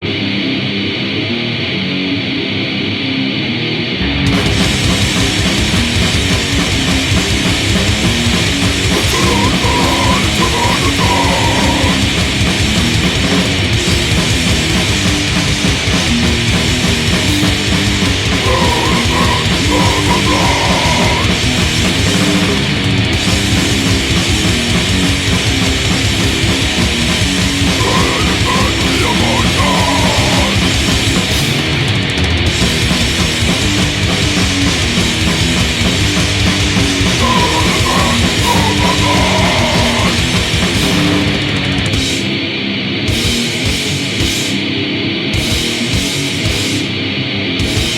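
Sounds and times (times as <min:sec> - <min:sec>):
distorted punk metal band: 0:00.0 - 0:47.9.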